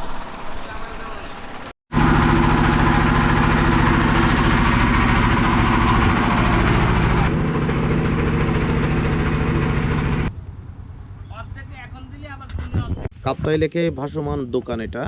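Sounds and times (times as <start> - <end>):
boat engine droning: 0.0 - 12.1.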